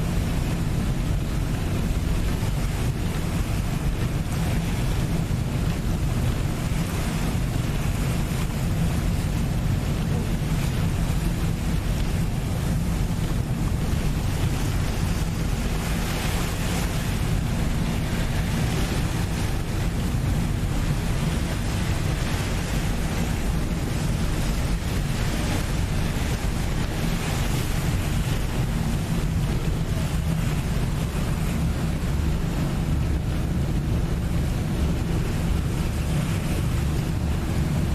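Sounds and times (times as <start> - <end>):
boat engine drone: 0.0 - 37.9
water rushing along hull: 0.0 - 37.9
wind buffeting microphone: 0.0 - 37.9.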